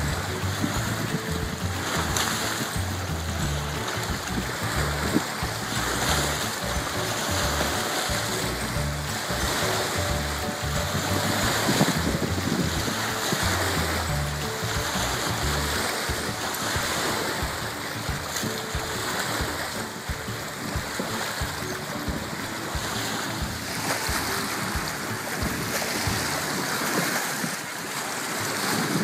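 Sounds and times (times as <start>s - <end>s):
small waves lapping on shore: 0.0s - 29.0s
wind buffeting microphone: 0.0s - 29.0s.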